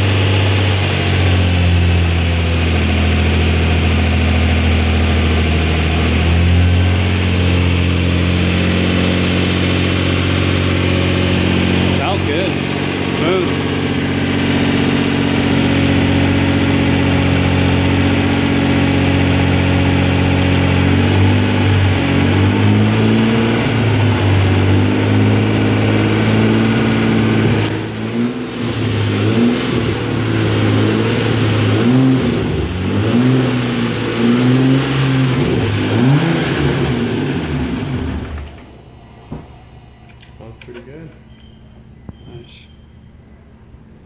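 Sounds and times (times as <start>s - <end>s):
car engine idling and revving: 0.0s - 44.0s.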